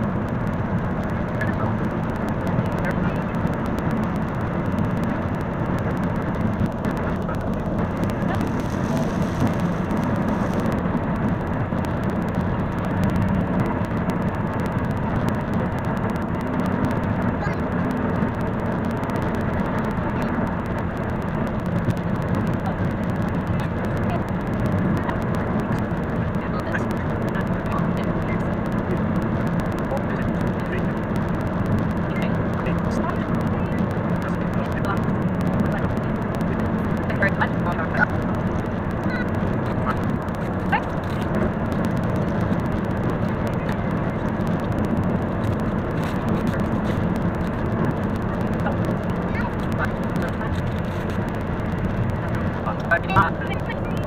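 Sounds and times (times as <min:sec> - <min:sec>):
sped-up road rumble and hiss: 0:00.0 - 0:54.0.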